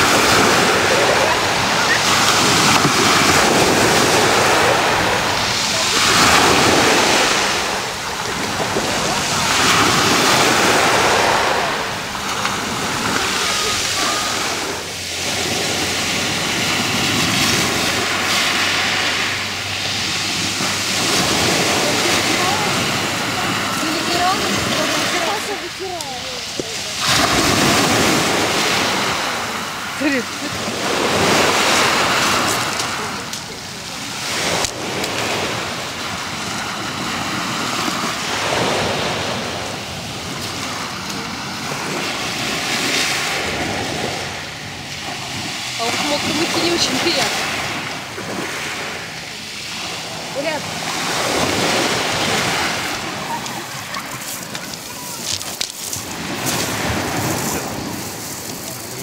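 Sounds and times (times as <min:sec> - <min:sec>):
waves washing up pebble beach: 0:00.0 - 0:59.0.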